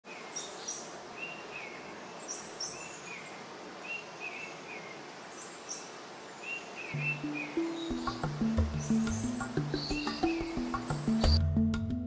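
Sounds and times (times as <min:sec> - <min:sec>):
background hiss: 0:00.1 - 0:11.4
birds calling: 0:00.1 - 0:11.4.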